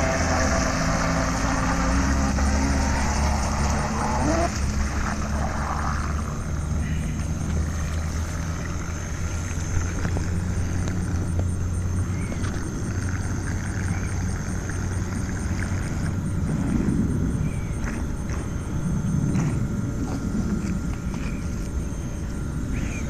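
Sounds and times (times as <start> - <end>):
low rumble: 0.0 - 22.8
high motor whine: 0.0 - 23.0.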